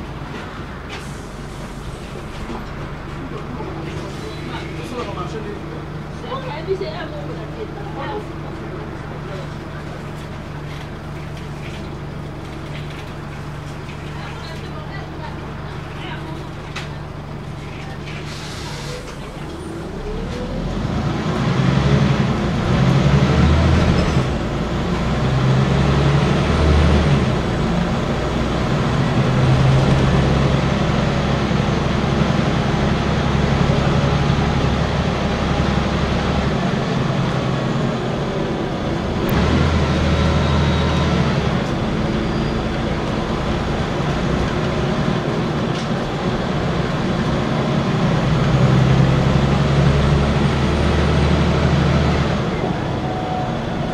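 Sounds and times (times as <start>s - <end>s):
bus diesel engine accelerating: 0.0s - 53.9s
road noise: 0.0s - 53.9s.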